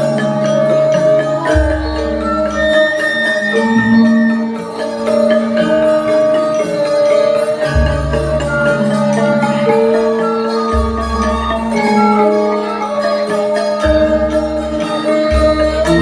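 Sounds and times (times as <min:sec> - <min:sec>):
bronze metallophones ringing: 0:00.0 - 0:16.0.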